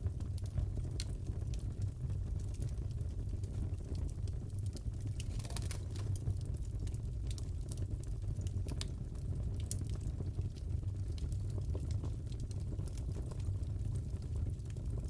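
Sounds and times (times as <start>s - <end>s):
burning logs rumbling: 0.0s - 15.0s
fire popping and crackling: 0.0s - 15.0s.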